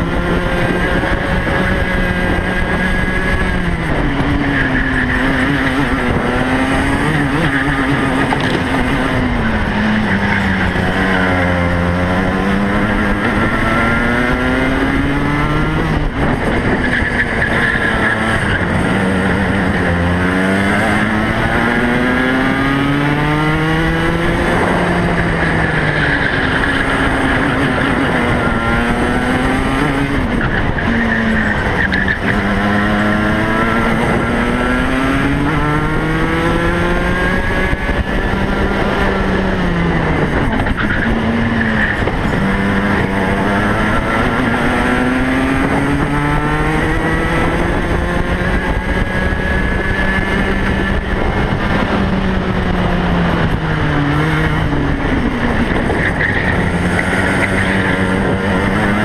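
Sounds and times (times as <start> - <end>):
kart engine revving: 0.0 - 59.0
wind and road noise: 0.0 - 59.0.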